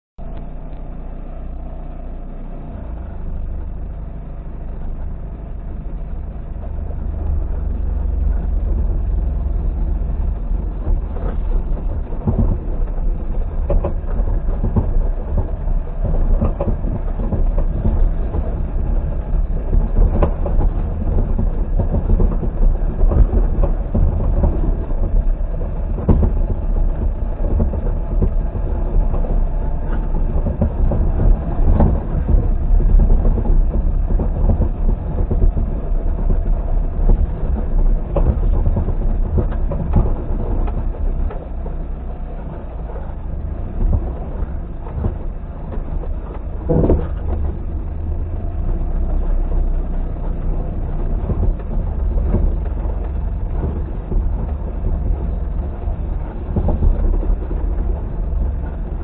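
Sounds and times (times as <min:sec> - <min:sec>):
car rumbling over rough track: 0:00.2 - 0:59.0
car body knocking and rattling: 0:04.7 - 0:59.0.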